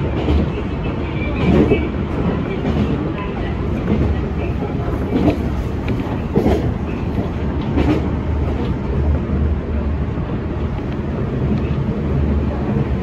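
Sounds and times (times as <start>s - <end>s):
train low rumble: 0.0s - 13.0s
wheels clacking on rails: 0.0s - 13.0s.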